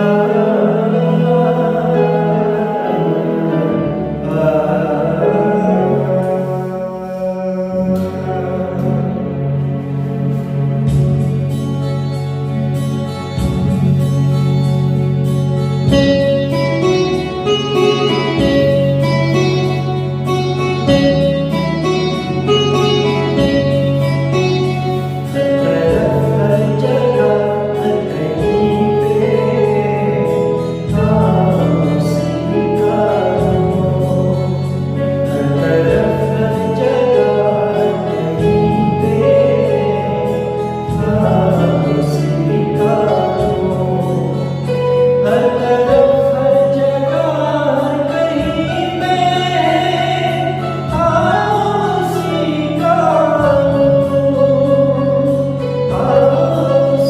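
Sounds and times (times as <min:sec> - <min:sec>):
instrumental accompaniment: 0:00.0 - 0:57.0.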